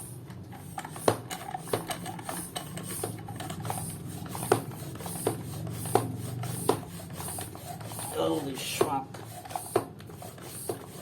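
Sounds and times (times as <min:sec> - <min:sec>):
floor pump strokes: 0:00.0 - 0:11.0.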